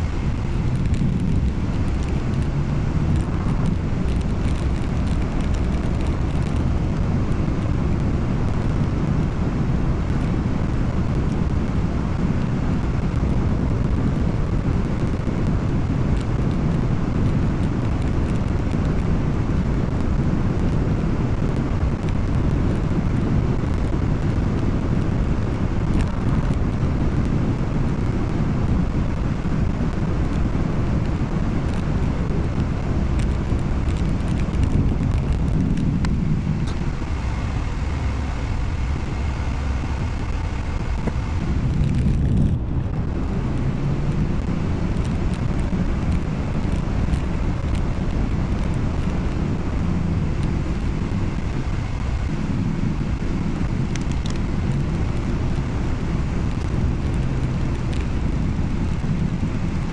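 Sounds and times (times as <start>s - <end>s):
tyre and engine rumble in car: 0.0s - 59.9s.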